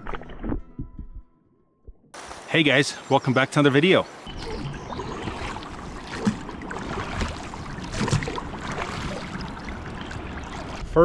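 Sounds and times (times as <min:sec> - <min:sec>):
river water moving: 0:02.2 - 0:11.0.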